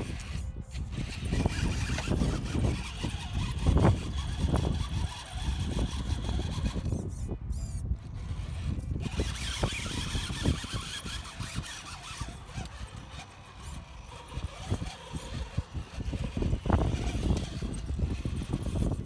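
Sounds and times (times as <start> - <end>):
rc truck drivetrain whine: 0.0 - 19.0.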